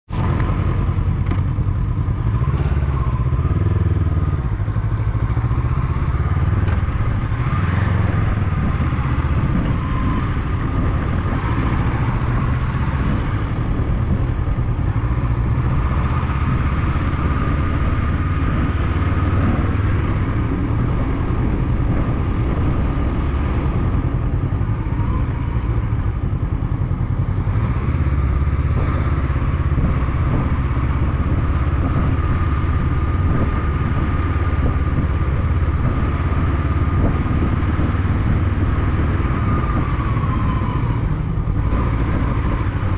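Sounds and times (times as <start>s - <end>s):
motorcycle engine running: 0.1s - 42.9s.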